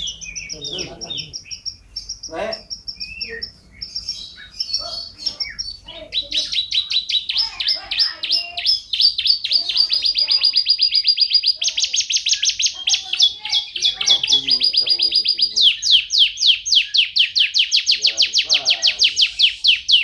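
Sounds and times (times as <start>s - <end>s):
canary singing with trills: 0.0s - 20.0s.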